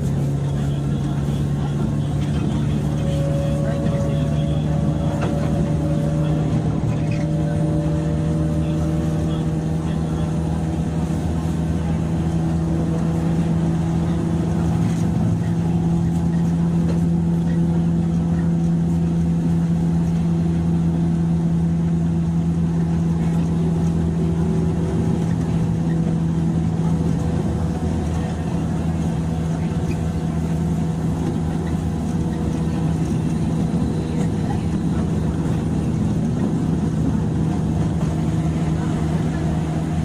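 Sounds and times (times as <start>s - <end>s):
electric train motor hum: 0.0s - 40.0s
wheels rumbling on rail: 0.0s - 40.0s.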